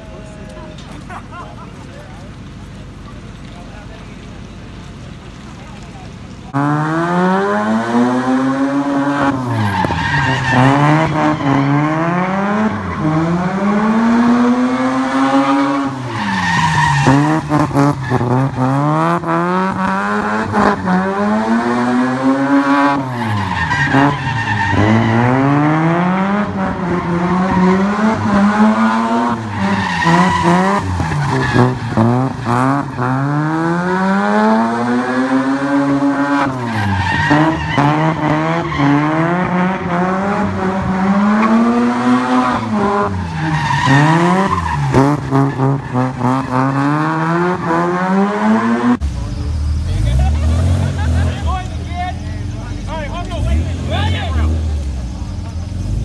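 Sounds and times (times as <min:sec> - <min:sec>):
car engine revving: 0:00.0 - 0:56.0
tyres skidding on wet asphalt: 0:00.0 - 0:56.0.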